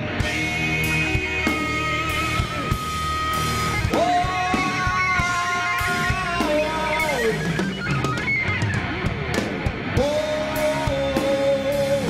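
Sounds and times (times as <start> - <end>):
electric guitar sustained notes: 0.0 - 12.0
heavy metal band playing live: 0.0 - 12.0.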